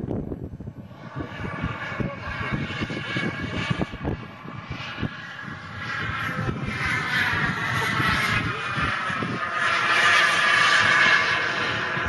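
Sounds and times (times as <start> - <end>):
low rumble: 0.0 - 12.0
model jet turbine flying overhead: 0.0 - 12.0.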